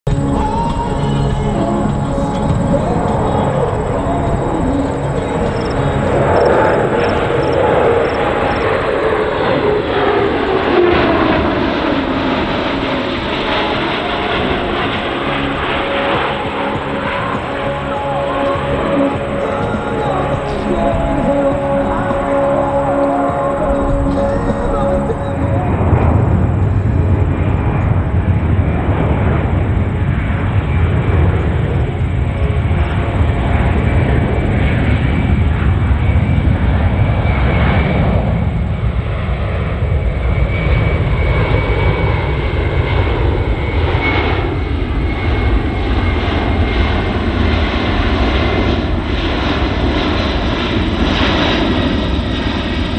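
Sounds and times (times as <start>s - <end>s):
jet engines of aircraft flying past: 0.1s - 52.9s.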